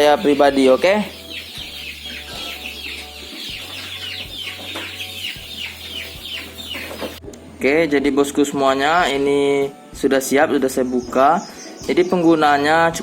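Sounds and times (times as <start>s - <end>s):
chicks cheeping: 0.0s - 7.3s, 8.0s - 13.0s.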